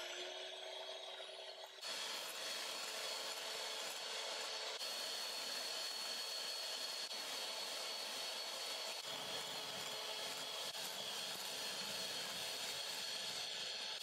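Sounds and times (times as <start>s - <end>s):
electric hand mixer whipping cream: 0.0s - 14.0s.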